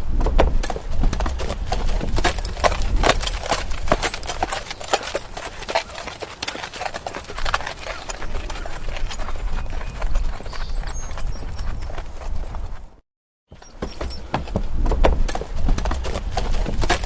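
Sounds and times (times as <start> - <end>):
horse hooves clip-clopping: 0.1 - 17.0.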